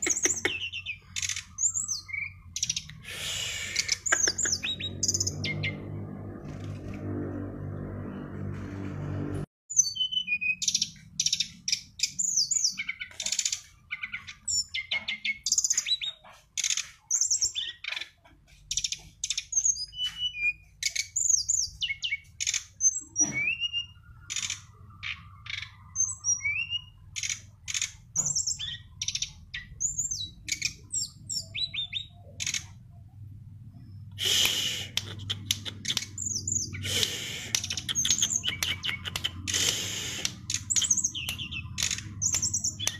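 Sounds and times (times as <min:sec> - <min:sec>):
songbird singing: 0:00.0 - 0:06.6, 0:09.7 - 0:42.9.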